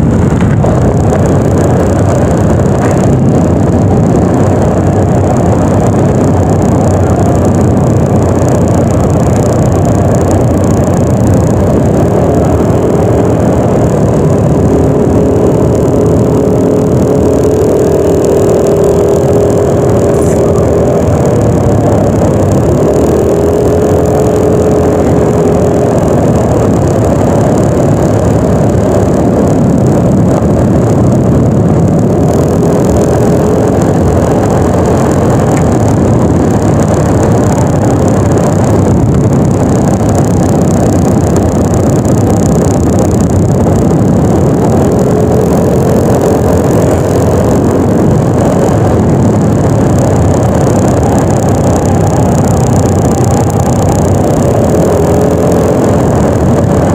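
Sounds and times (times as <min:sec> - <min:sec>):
scooter engine: 0:00.0 - 0:56.9
wind rushing on microphone: 0:00.0 - 0:56.9.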